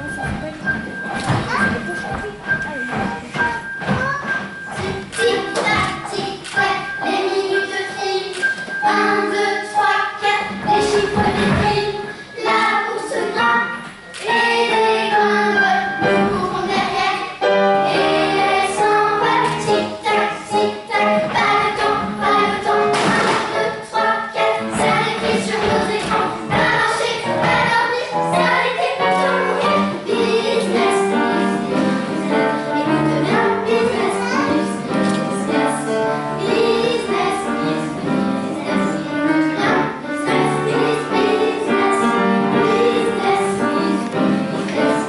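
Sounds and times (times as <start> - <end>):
instrumental accompaniment with beat: 0.0 - 37.4
children singing in chorus: 4.8 - 45.0.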